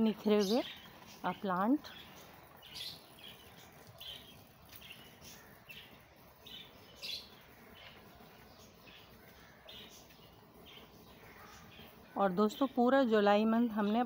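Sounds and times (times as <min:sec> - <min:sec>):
bird chirping: 0:00.0 - 0:14.0
quiet garden background noise: 0:00.0 - 0:14.0.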